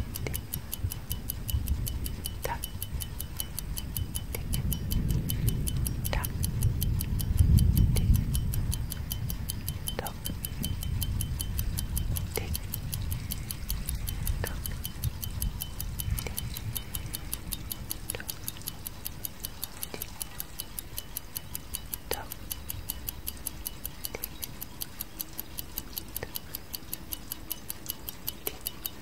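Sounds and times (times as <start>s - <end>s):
low rumbling background: 0.0s - 24.6s
clock tick-tock: 0.0s - 29.0s.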